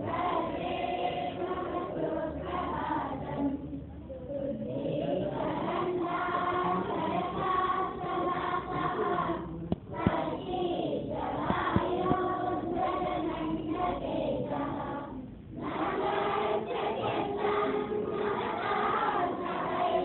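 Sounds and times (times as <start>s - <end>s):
children singing a prayer: 0.0s - 20.0s.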